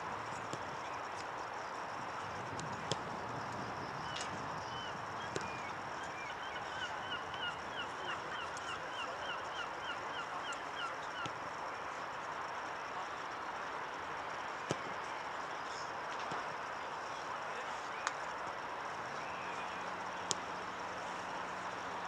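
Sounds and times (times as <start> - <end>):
open-air background noise: 0.0 - 22.0.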